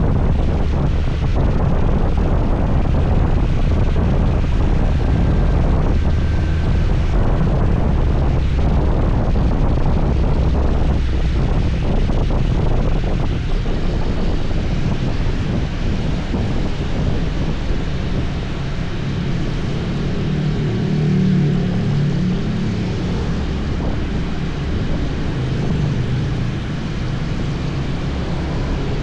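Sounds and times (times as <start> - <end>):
road and engine noise: 0.0 - 29.0
wind buffeting microphone: 0.0 - 29.0.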